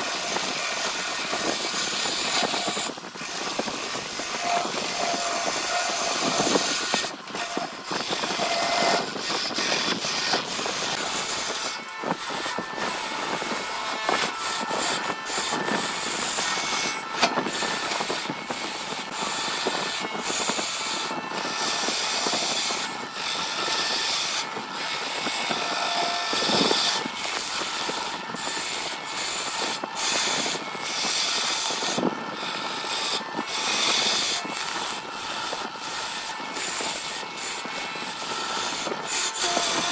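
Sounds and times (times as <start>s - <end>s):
gouge shaving wood on lathe: 0.0s - 39.9s.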